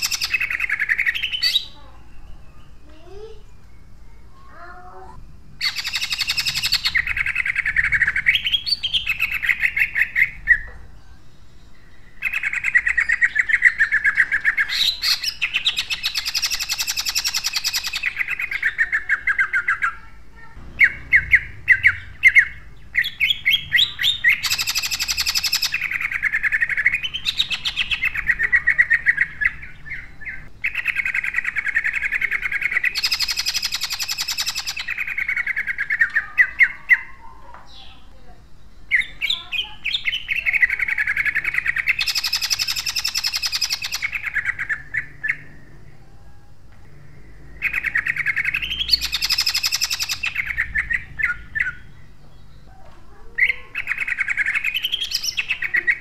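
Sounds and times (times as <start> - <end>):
sharp bird notes: 0.0 - 45.8, 46.9 - 52.7
bird singing rapid repeated notes: 0.0 - 45.9, 46.9 - 56.0.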